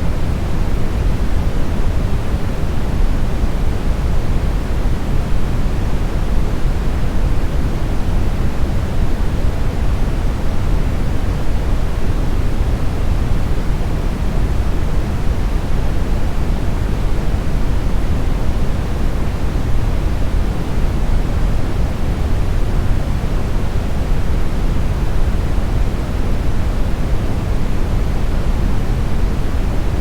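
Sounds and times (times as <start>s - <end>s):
brown noise hiss: 0.0s - 30.0s.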